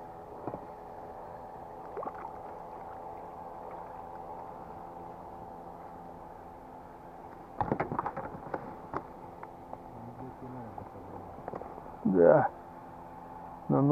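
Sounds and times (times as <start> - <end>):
boat motor droning: 0.0 - 13.9.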